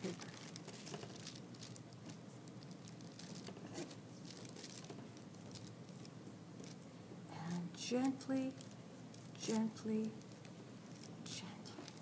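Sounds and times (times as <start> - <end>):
tissue paper crinkling: 0.0 - 6.9, 8.5 - 12.0.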